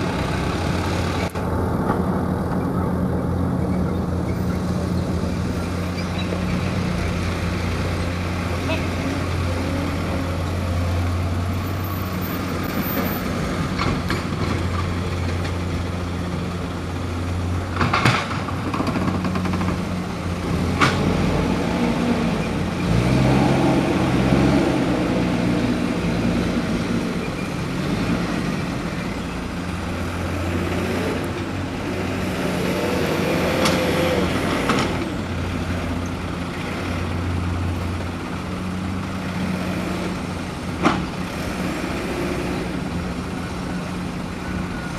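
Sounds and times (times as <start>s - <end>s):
diesel truck engines idling: 0.0s - 44.9s.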